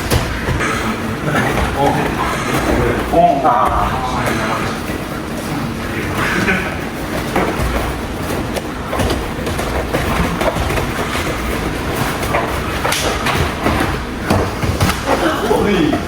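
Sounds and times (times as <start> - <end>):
sharp knocks and thuds: 0.0 - 4.5, 7.1 - 16.0
continuous rumbling: 0.0 - 16.0.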